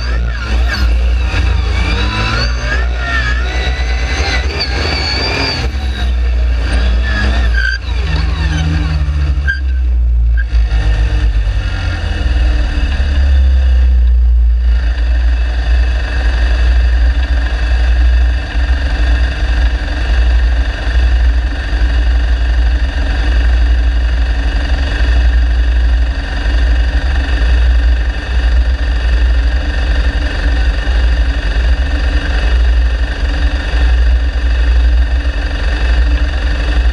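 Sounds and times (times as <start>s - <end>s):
buggy engine idling: 0.0s - 36.9s.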